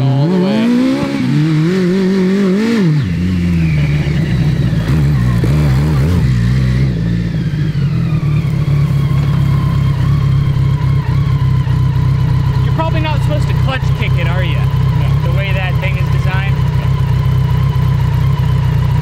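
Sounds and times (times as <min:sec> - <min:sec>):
kart engine revving: 0:00.0 - 0:19.0.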